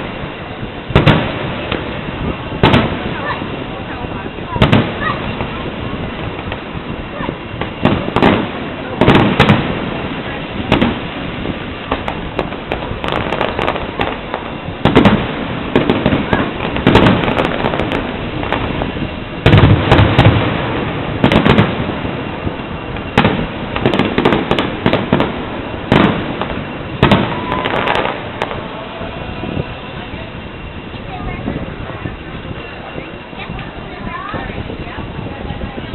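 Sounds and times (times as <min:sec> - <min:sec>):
firework shells bursting: 0:04.5 - 0:34.8.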